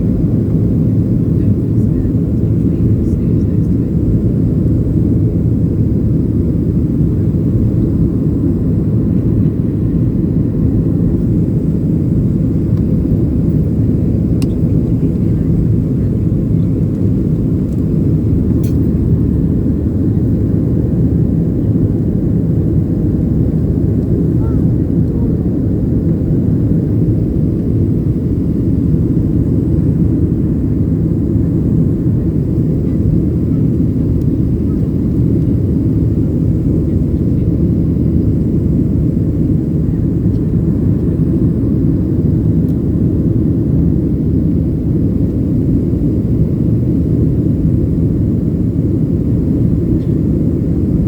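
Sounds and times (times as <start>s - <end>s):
aircraft engines and airflow rumble: 0.0s - 51.0s.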